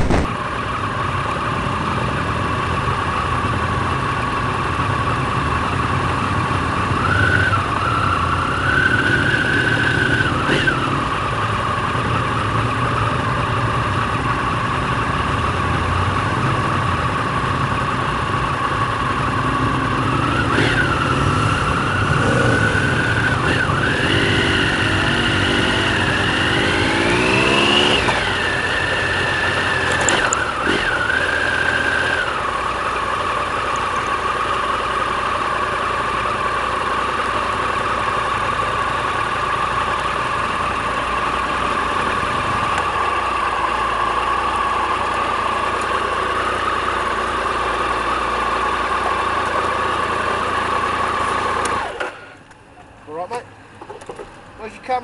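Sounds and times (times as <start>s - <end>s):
motorcycle engine revving: 0.0s - 52.5s.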